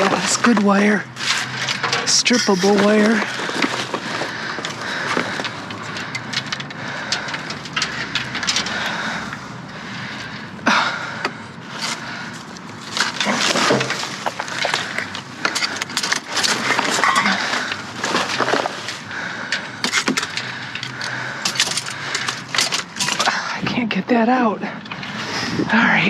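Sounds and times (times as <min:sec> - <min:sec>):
junk rustling and clattering: 0:00.0 - 0:23.5.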